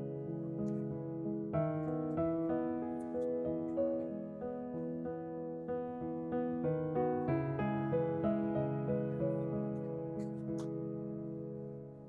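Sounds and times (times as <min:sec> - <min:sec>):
piano single notes: 0:00.0 - 0:12.0.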